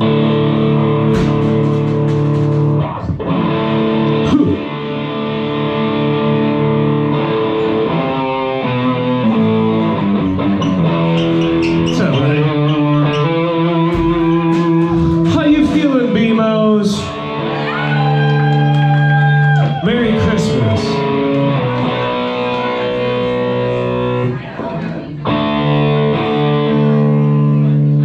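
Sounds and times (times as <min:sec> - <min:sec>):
electric guitar chords: 0:00.0 - 0:28.0.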